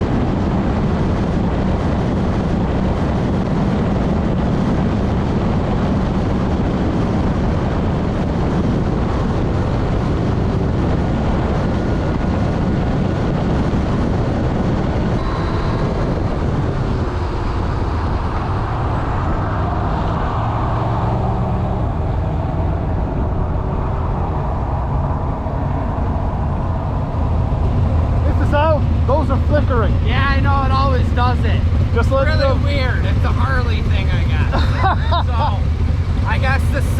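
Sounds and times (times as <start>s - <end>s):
motorcycle engine running: 0.0s - 36.9s
wind noise: 0.0s - 36.9s.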